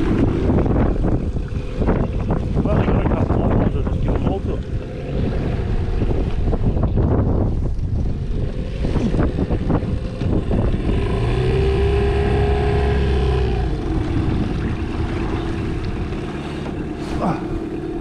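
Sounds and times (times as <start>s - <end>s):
motorboat engine running: 0.0s - 18.0s
water noise: 0.0s - 18.0s
wind: 0.0s - 18.0s.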